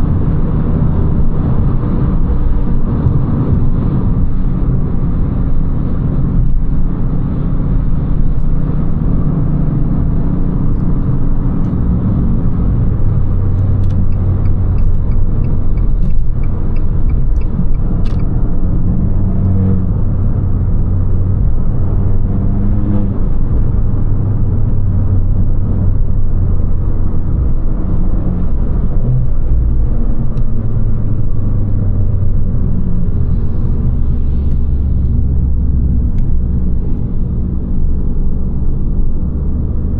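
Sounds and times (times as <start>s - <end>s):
car engine driving: 0.0s - 39.9s
road noise: 0.0s - 39.9s.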